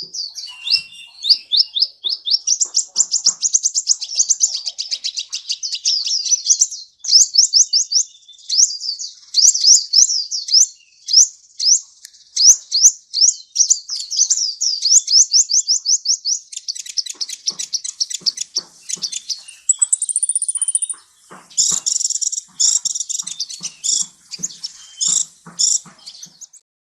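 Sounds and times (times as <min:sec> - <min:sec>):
bird chirping and trilling: 0:00.0 - 0:26.6.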